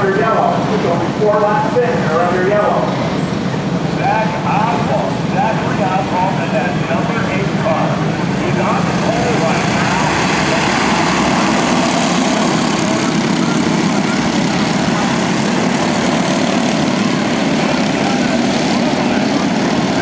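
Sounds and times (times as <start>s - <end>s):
racing kart engines buzzing: 0.0s - 20.0s.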